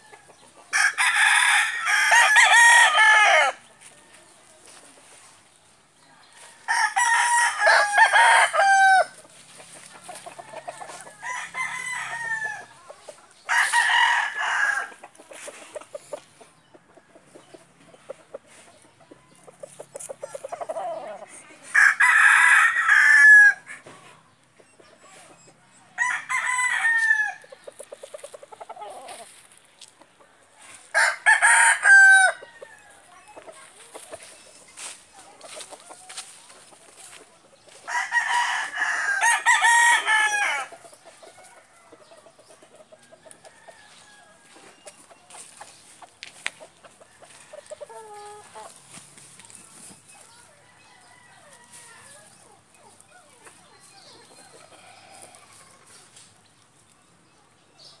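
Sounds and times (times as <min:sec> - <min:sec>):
roosters crowing: 0:00.0 - 0:04.8, 0:06.1 - 0:16.3, 0:19.6 - 0:24.0, 0:25.9 - 0:29.6, 0:30.6 - 0:33.6, 0:34.2 - 0:45.6, 0:46.2 - 0:56.0.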